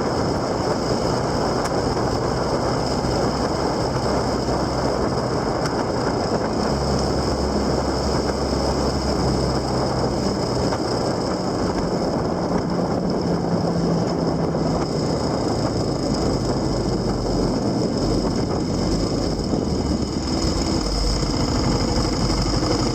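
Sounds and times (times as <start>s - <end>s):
road and wind noise: 0.0s - 22.9s
vehicle engine hum: 0.0s - 22.9s.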